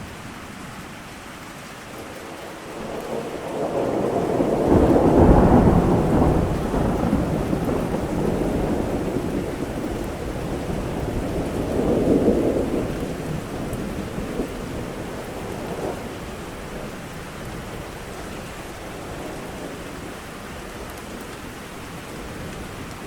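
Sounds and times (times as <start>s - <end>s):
steady rain: 0.0s - 23.0s
thunder rumbling: 2.6s - 23.0s.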